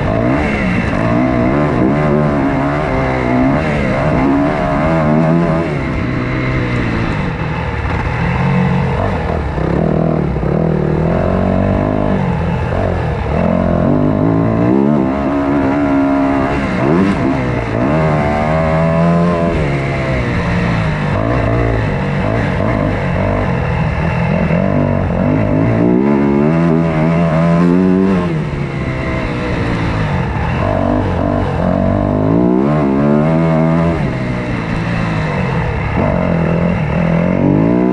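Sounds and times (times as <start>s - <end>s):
dirt bike engine revving: 0.0s - 37.9s
wind and ride noise: 0.0s - 37.9s.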